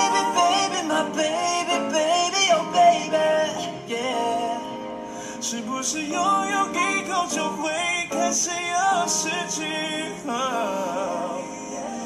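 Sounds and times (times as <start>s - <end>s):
man singing pop song: 0.0s - 12.0s
musical accompaniment: 0.0s - 12.0s.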